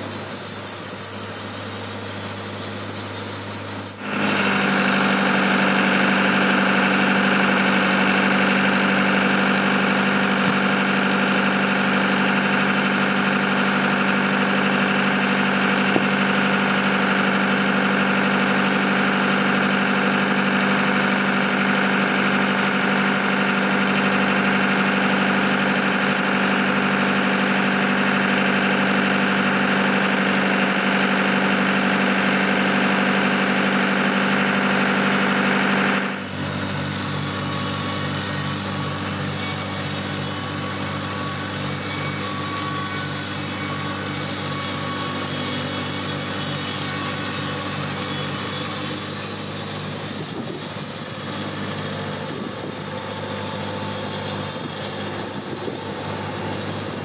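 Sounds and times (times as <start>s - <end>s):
sawmill and generator hum: 0.0s - 57.0s.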